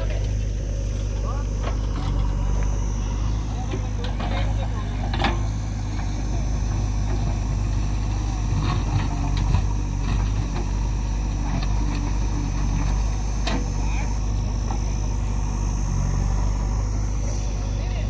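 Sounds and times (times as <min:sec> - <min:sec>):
backhoe diesel engine running: 0:00.0 - 0:18.0.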